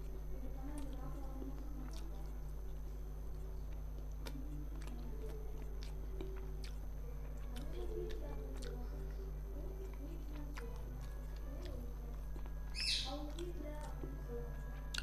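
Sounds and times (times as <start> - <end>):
steady low hum: 0.0 - 15.0
person chewing food: 0.7 - 15.0.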